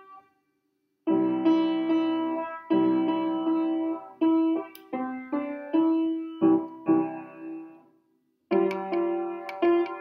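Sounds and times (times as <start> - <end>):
upright piano notes and chords: 1.0 - 10.0.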